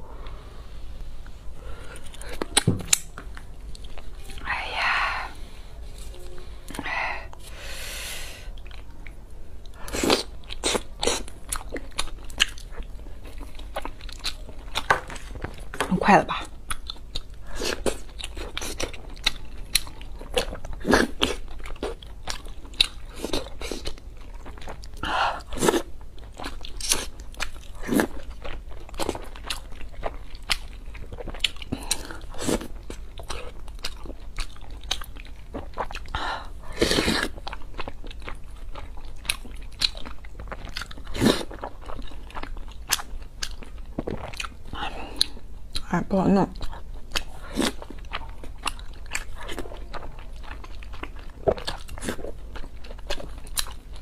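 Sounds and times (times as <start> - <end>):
chewing and wet mouth sounds: 1.2 - 5.3, 8.5 - 54.0.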